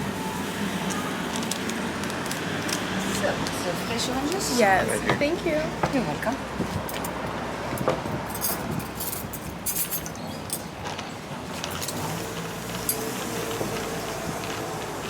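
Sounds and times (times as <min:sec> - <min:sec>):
cafe background noise: 0:00.0 - 0:15.0.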